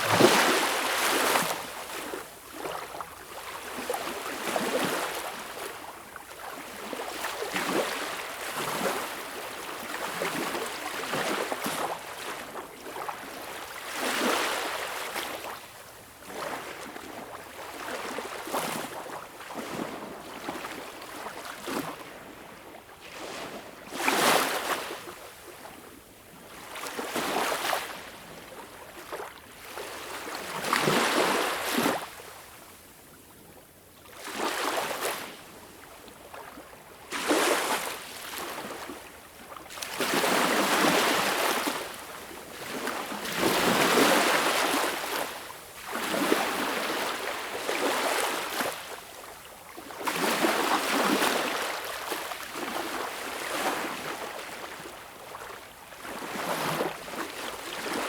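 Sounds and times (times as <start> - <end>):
small waves breaking on beach: 0.0 - 25.8, 26.4 - 32.6, 34.0 - 58.0.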